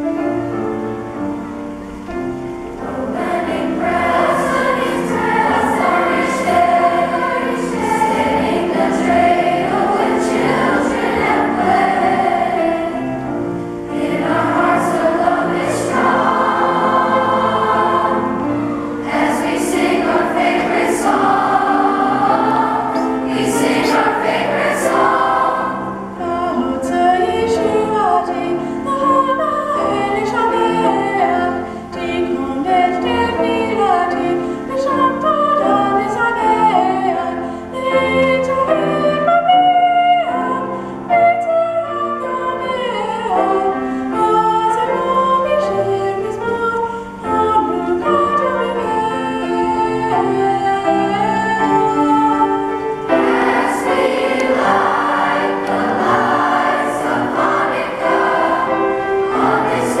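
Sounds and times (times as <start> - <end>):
youth choir singing: 2.8 - 40.6, 47.3 - 60.0.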